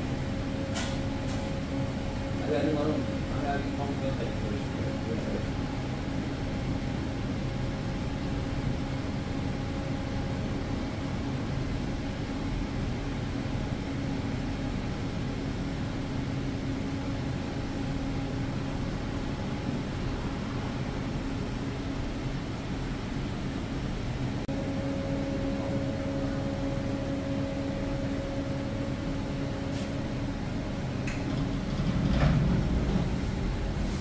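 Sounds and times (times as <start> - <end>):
machine humming: 0.0 - 34.0.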